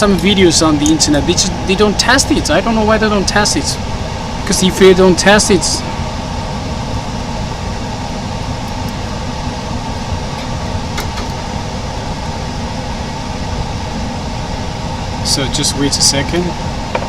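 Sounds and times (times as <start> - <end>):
mechanical hum and hiss: 0.0 - 17.0.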